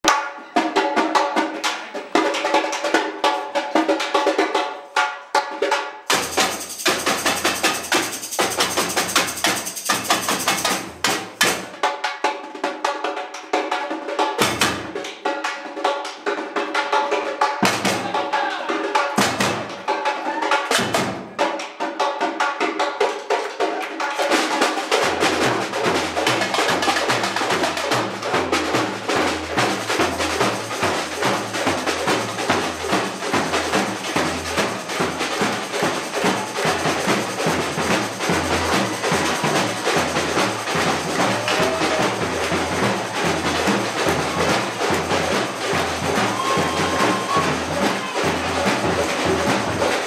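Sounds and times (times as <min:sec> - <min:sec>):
samba percussion group playing: 0:00.0 - 0:50.0.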